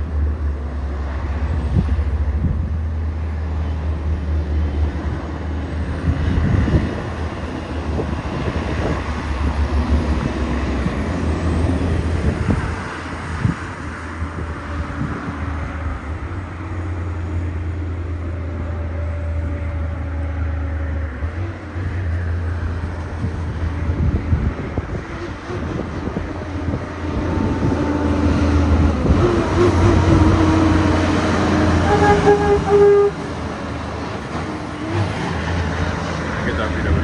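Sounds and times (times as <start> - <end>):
truck diesel engine under load: 0.0 - 37.0.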